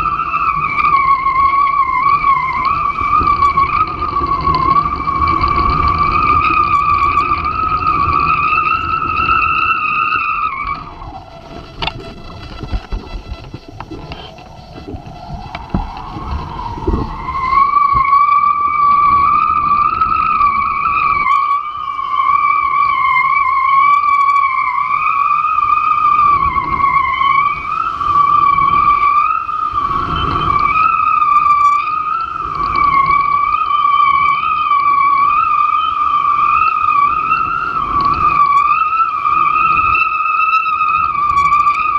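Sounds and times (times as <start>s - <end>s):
hydrofoil high whistle: 0.0s - 41.9s
steady high whine: 0.0s - 41.9s
water noise: 0.0s - 41.9s
wind rumble on microphone: 0.0s - 41.9s.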